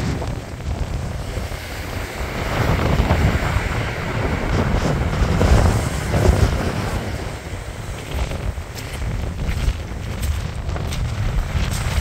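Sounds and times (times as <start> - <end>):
surf breaking on pebble beach: 0.0 - 12.0
wind buffeting microphone: 0.0 - 12.0.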